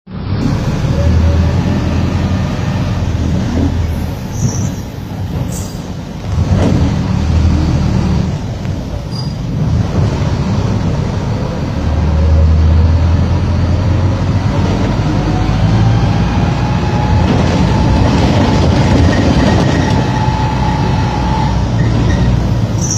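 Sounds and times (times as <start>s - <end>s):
bus diesel engine droning: 0.1s - 22.9s.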